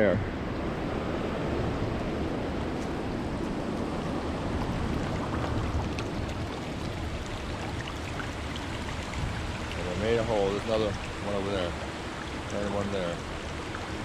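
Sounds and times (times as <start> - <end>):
water rushing from a spring: 0.8 - 14.0.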